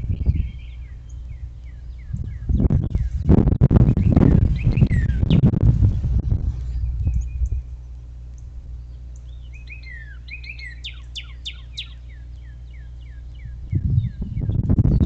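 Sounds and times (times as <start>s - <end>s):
low rumble: 0.0s - 10.2s, 12.1s - 15.0s
songbird singing: 0.0s - 15.0s
steady low hum: 0.0s - 15.0s.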